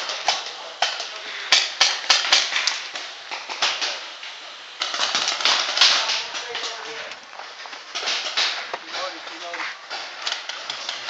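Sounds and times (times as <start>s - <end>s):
sharp cracks: 0.0s - 11.0s.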